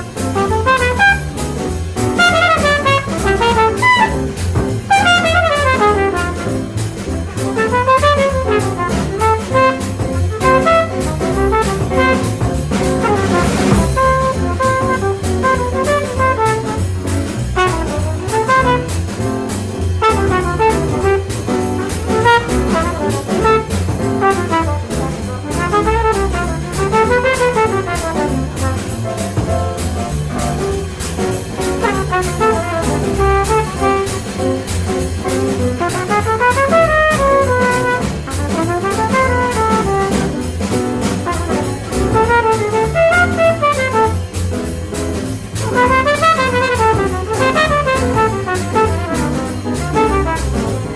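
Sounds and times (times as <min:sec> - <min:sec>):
jazz rhythm section: 0:00.0 - 0:50.9
jazz trumpet solo: 0:00.0 - 0:50.9.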